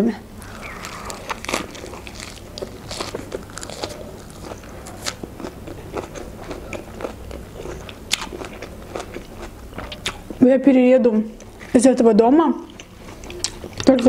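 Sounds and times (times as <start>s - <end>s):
lettuce being chewed: 0.4s - 10.4s, 12.6s - 14.0s.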